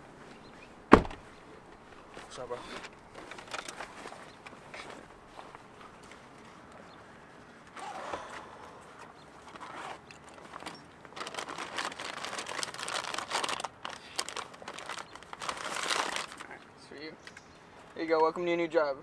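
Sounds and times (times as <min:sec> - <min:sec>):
rustling and crinkling by hand: 0:00.0 - 0:18.0.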